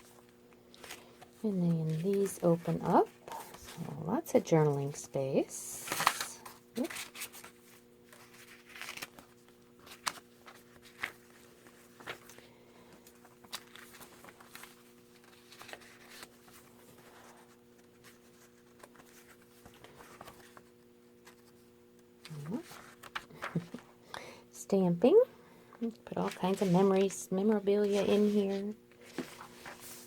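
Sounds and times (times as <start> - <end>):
paper pages rustling: 0.0 - 3.9, 5.8 - 23.8, 26.1 - 30.0
faint steady hum: 0.0 - 30.0.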